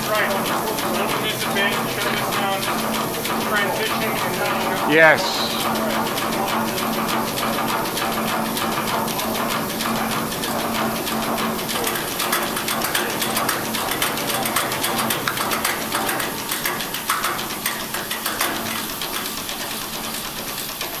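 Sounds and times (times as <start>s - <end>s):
generator hum: 0.0s - 21.0s
steam engine clicking rhythm: 0.0s - 21.0s.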